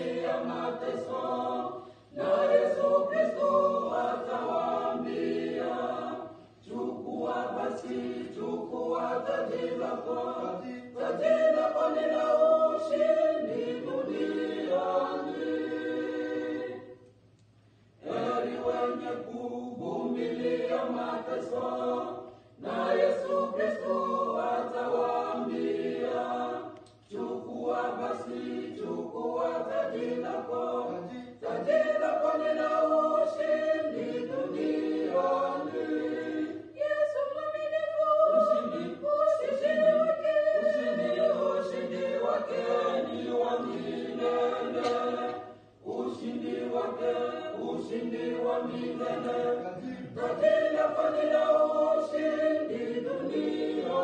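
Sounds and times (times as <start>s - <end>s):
group singing a hymn: 0.0s - 54.0s.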